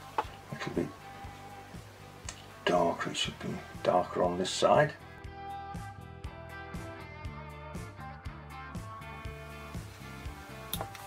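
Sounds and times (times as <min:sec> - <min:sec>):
pulsing background music: 0:00.0 - 0:11.0.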